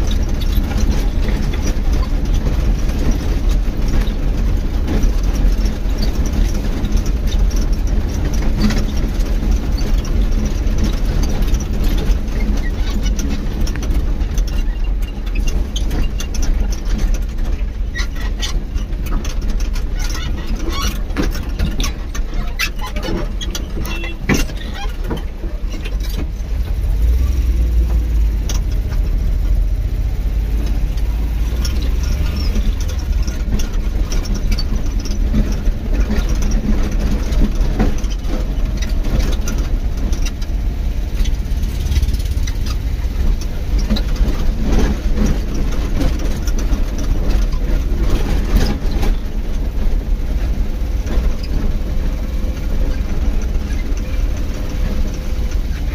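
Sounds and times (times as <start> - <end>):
knocks and rattles from bumps: 0.0 - 55.9
vehicle engine and tyres rumbling: 0.0 - 55.9.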